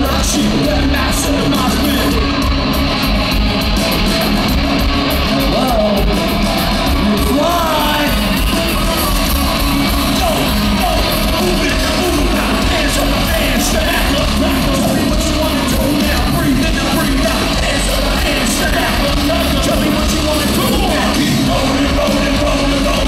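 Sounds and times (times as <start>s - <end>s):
live rap-metal band playing: 0.0s - 23.0s
shouted rapped vocals: 0.0s - 23.0s.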